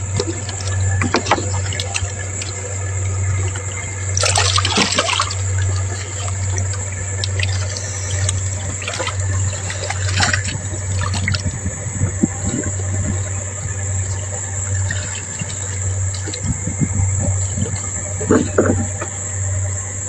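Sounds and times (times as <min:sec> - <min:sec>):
water gushing: 0:00.0 - 0:19.7
high-pitched insect drone: 0:00.0 - 0:20.0.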